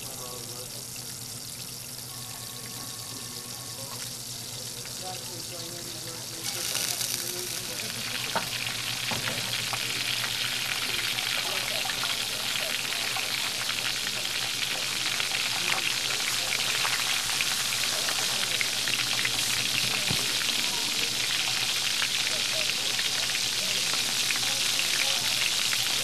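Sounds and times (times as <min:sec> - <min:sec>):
patties sizzling on griddle: 0:00.0 - 0:26.0.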